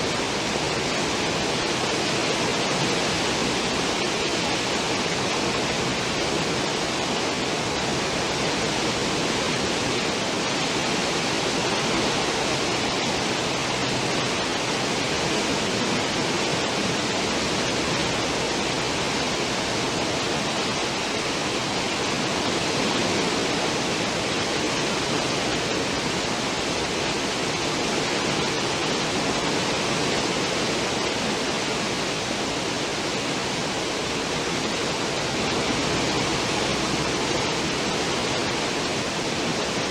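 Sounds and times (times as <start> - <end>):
churning water rushing: 0.0 - 39.9.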